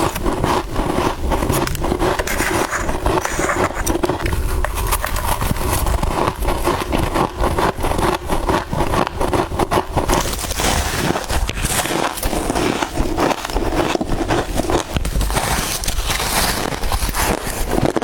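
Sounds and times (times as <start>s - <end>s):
chewing frost crunches: 0.0s - 18.0s.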